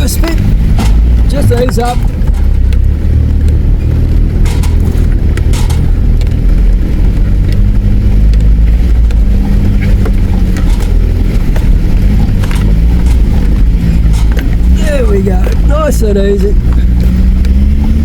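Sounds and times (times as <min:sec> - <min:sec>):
knocks and clicks: 0:00.0 - 0:18.0
vehicle engine pulling at low speed: 0:00.0 - 0:18.0.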